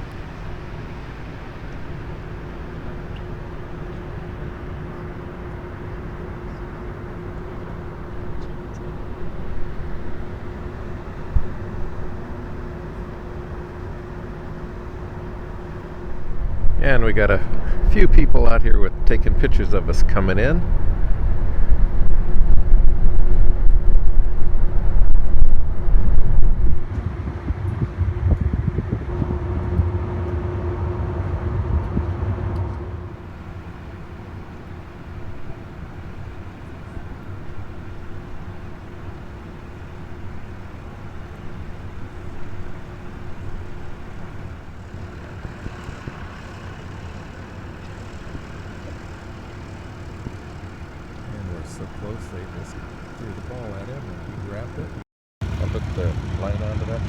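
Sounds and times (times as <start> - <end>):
wind buffeting microphone: 0.0 - 54.9
faint steady hum: 0.0 - 57.0
low engine rumble: 0.0 - 57.0.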